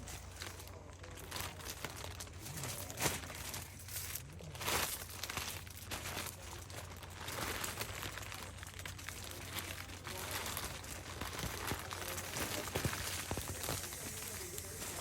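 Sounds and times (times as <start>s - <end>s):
plastic crinkling and rustling: 0.0s - 15.0s.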